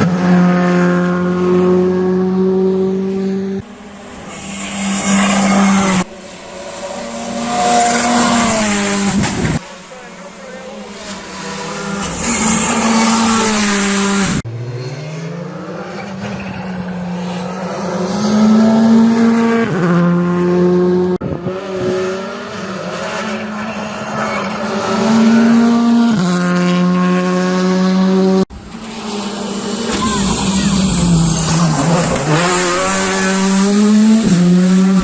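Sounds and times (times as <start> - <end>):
rally car engines accelerating: 0.0 - 35.0.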